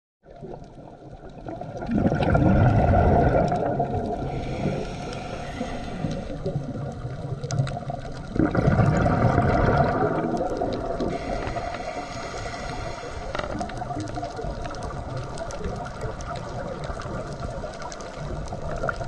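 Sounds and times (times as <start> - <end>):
exhaled bubbles underwater: 0.2 - 19.0
water noise: 0.2 - 19.0.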